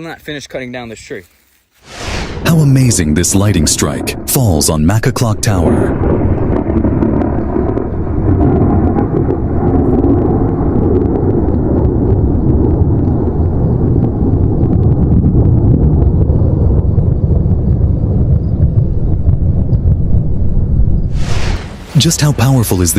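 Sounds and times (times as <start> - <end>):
crackles: 1.0 - 20.0, 21.0 - 22.9
storm wind on microphone: 1.9 - 22.9.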